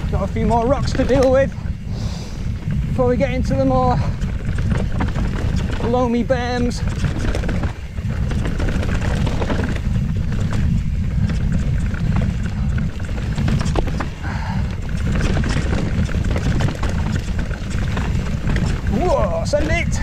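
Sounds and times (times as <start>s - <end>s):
bike clicking and rattling: 0.0s - 20.0s
wind and tyres rumbling: 0.0s - 20.0s.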